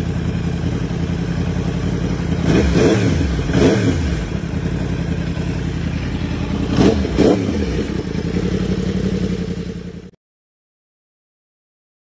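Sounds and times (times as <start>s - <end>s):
motorcycle engine idling and revving: 0.0s - 10.2s.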